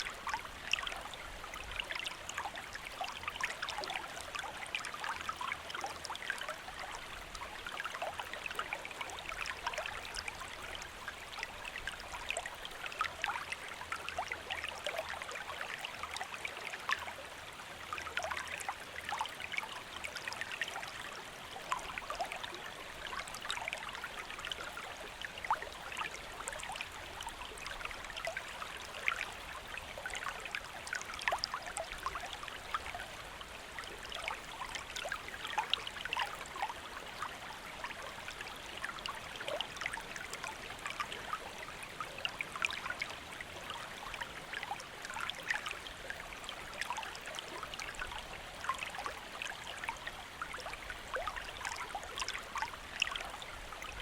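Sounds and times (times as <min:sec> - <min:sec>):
small river flowing: 0:00.0 - 0:54.0.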